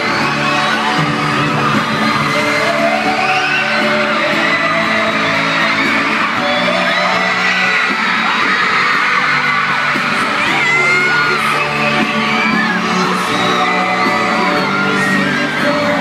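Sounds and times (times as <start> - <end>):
fans screaming and whooping: 0.0 - 16.0
live pop song with singing: 0.0 - 16.0.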